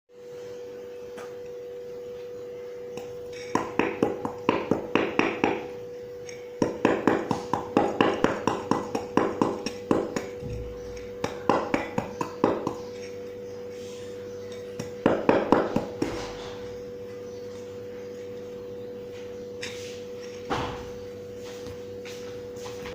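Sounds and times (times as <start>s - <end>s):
steady hum: 0.1s - 22.9s.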